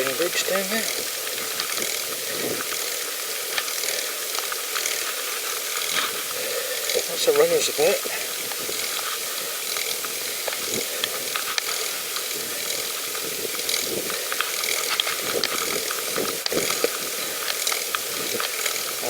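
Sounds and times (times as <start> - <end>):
bicycle drivetrain ticking: 0.0 - 19.0.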